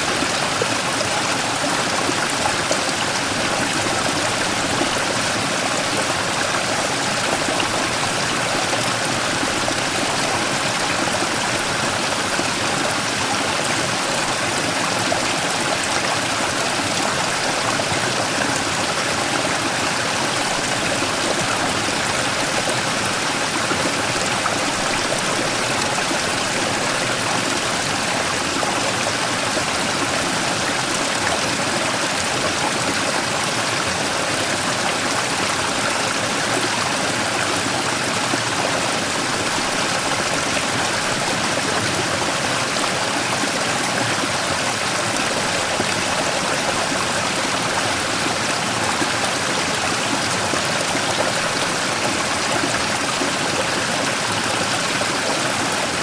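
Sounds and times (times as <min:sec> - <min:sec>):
stream rushing over rock: 0:00.0 - 0:56.0.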